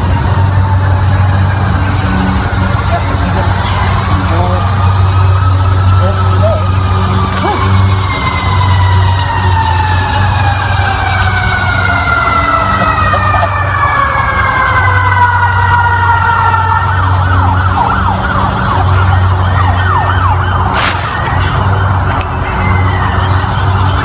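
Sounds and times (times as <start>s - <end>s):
emergency vehicle siren: 0.0s - 24.0s.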